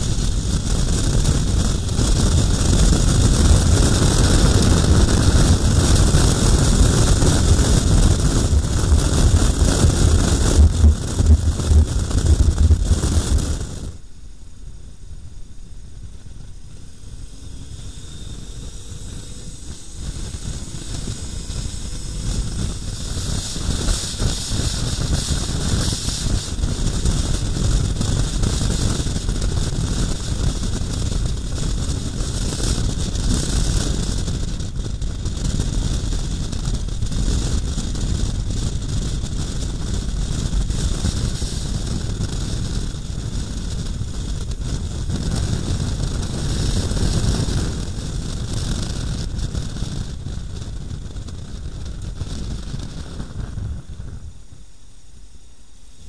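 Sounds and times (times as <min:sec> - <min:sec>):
wind rushing over microphone: 0:00.0 - 0:55.3
motorcycle engine and road rumble: 0:00.0 - 0:56.0.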